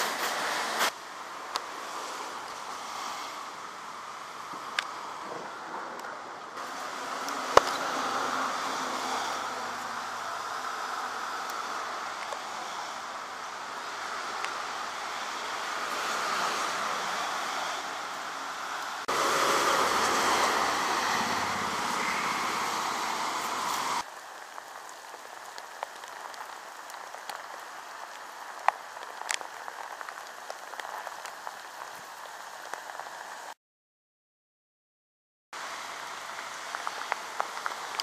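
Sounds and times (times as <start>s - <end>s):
rain pouring on pavement: 0.0s - 33.6s, 35.6s - 38.0s.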